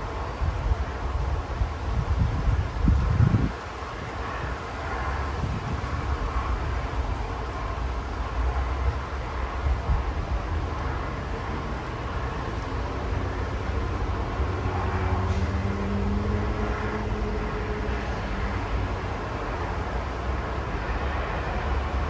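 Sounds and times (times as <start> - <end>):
distant highway traffic rumble: 0.0 - 22.0
passing vehicle hum: 0.0 - 22.0.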